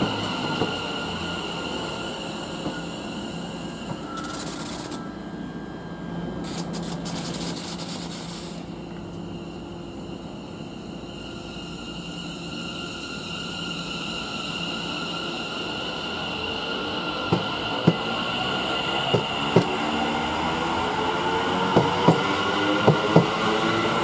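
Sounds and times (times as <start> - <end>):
electric train hum and whine: 0.0 - 24.0.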